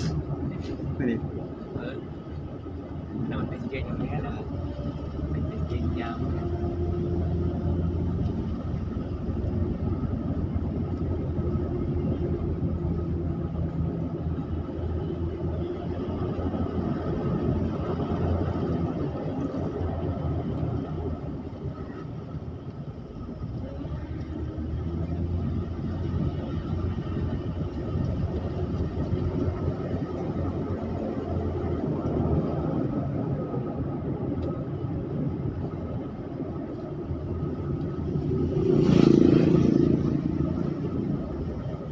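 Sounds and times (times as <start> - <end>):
car engine and tyre noise: 0.0 - 41.9.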